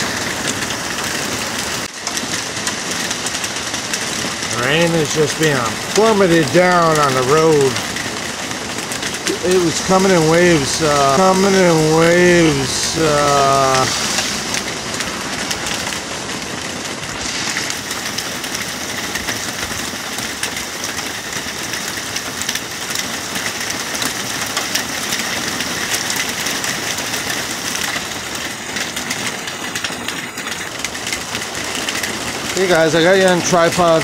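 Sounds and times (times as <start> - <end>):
heavy rain on asphalt: 0.0 - 34.0.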